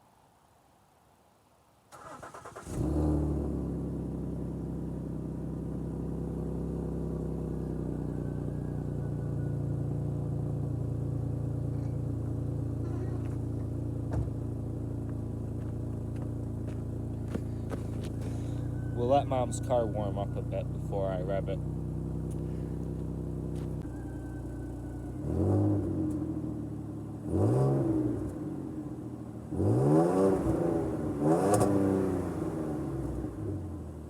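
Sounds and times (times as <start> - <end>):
car engine starting and idling: 1.9 - 34.0.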